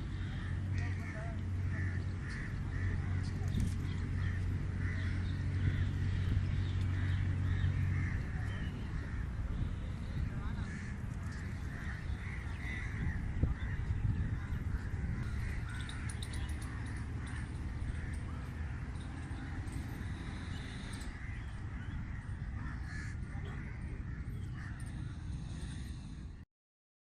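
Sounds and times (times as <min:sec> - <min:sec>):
birds calling and chirping: 0:00.0 - 0:26.4.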